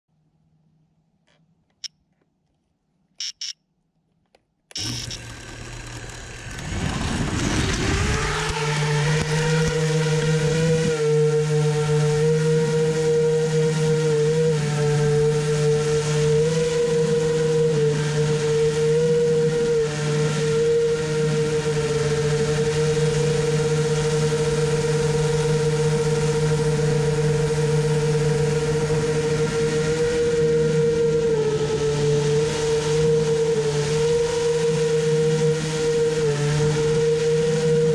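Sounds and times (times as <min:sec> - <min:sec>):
engine starting and revving: 0:04.7 - 0:37.9
motor humming with high whine: 0:04.7 - 0:37.9.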